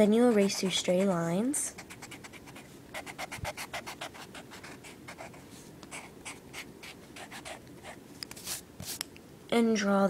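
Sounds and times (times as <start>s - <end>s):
eraser rubbing on paper: 0.1s - 9.0s.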